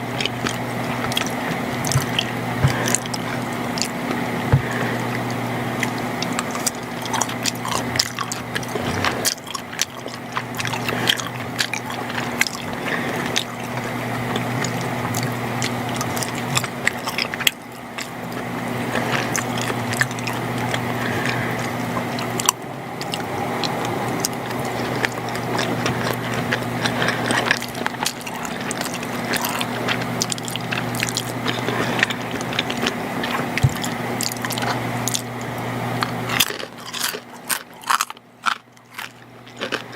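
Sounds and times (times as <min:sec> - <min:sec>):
low electrical hum: 0:00.0 - 0:39.9
wet sticky food sounds: 0:00.0 - 0:39.9.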